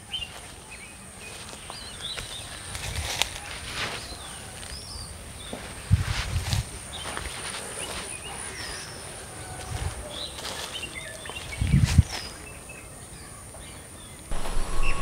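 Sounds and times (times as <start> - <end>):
footsteps on grass and leaves: 0.0 - 12.6, 14.3 - 15.0
small birds chirping: 0.0 - 15.0.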